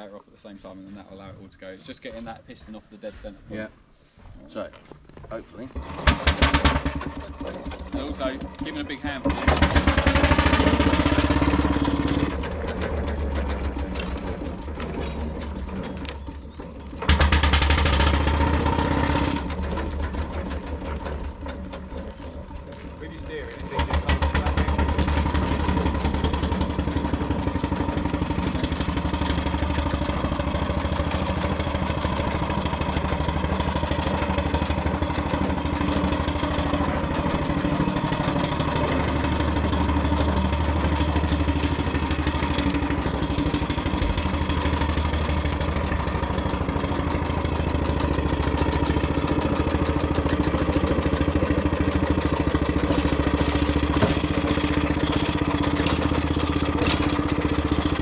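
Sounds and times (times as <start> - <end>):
mechanical clatter: 5.6 - 58.0
steam engine exhaust beat: 5.8 - 58.0.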